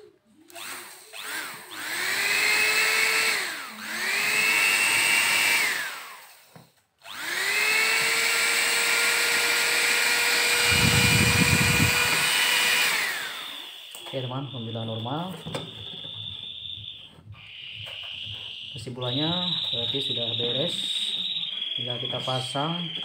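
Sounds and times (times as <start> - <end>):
hand mixer motor whining: 0.0 - 23.0.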